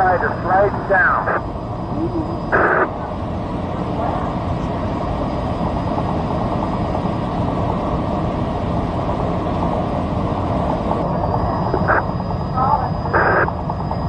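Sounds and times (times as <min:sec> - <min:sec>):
aircraft engine drone in cabin: 0:00.0 - 0:14.0.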